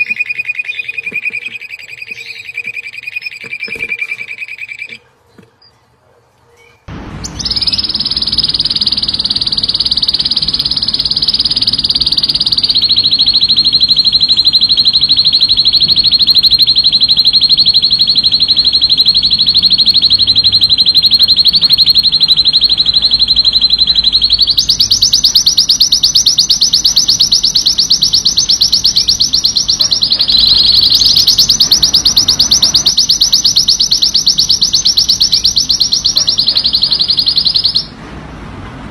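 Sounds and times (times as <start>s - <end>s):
canary rapid high trills: 0.0s - 5.0s, 7.1s - 38.0s.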